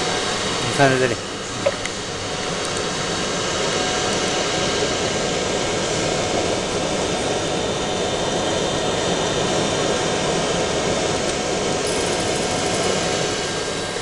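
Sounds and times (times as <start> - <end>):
faint constant whine: 0.0 - 14.0
laser engraving machine running: 0.0 - 14.0.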